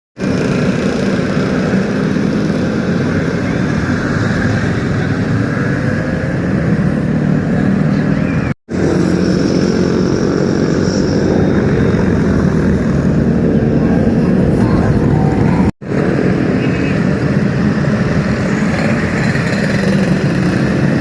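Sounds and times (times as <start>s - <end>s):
motorcycle engines running: 0.2s - 21.0s
street noise: 0.2s - 21.0s.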